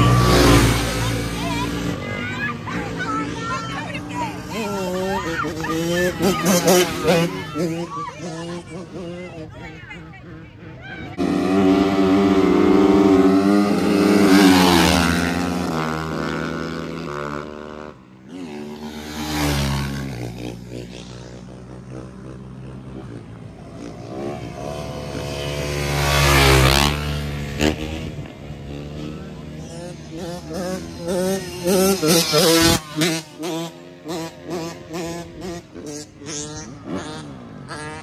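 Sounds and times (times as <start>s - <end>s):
motorcycle engines passing: 0.0s - 38.0s.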